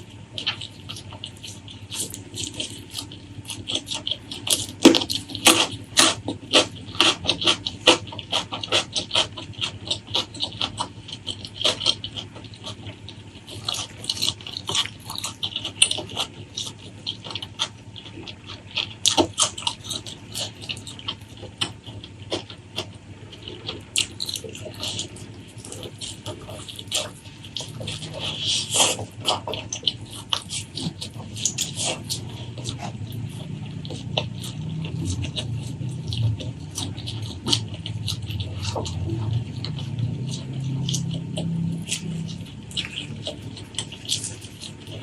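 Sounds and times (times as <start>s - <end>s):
wet chewing and lip-smacking: 0.0s - 45.0s.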